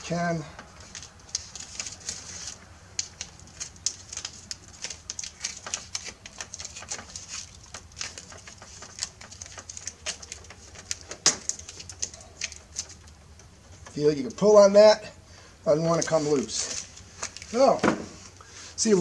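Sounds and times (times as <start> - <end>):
tape crackling and crinkling: 0.0 - 15.0, 15.7 - 19.0.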